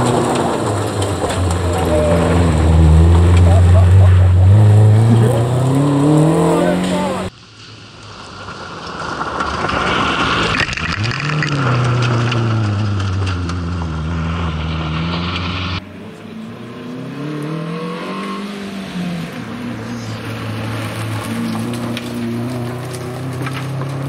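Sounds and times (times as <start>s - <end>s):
rally car engine revving: 0.0s - 7.3s, 10.0s - 24.0s
gravel crackling under tyres: 0.0s - 24.0s.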